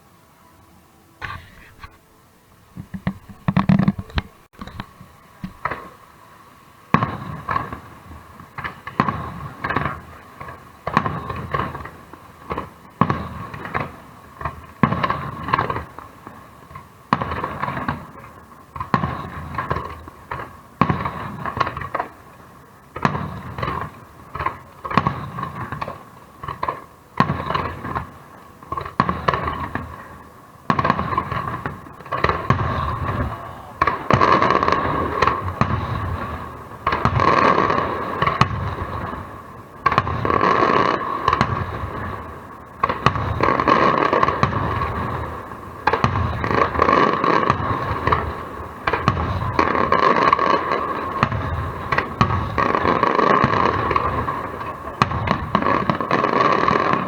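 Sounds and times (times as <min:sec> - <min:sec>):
fireworks shells bursting: 0:01.2 - 0:22.3, 0:23.0 - 0:57.0.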